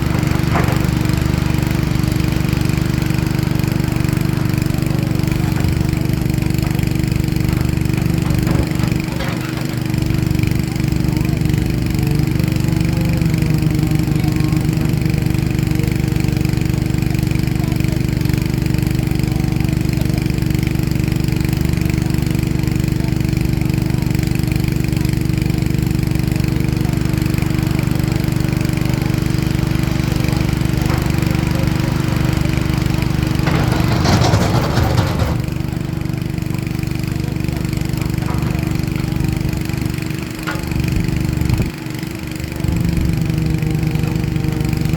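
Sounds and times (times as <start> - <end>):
excavator diesel engine running: 0.0 - 44.9
loud rattling burst: 0.0 - 44.9.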